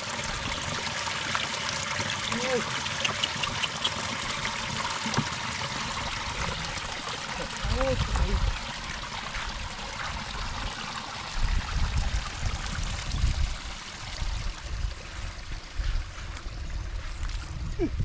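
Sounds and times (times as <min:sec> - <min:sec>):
stream water flowing over rocks: 0:00.0 - 0:17.4.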